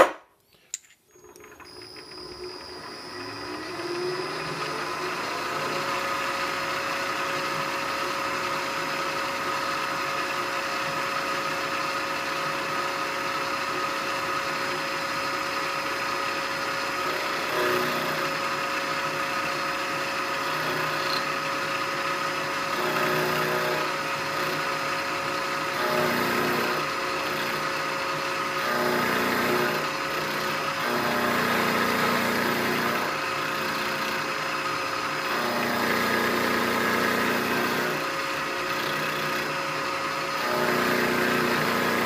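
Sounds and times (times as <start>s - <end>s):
milling machine spindle whine: 1.1s - 42.0s.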